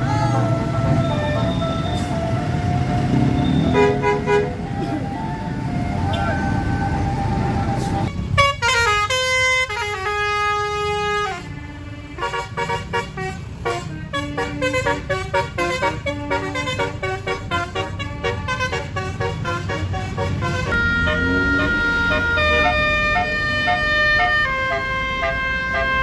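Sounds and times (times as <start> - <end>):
musical air horn playing a tune: 3.1 - 26.0.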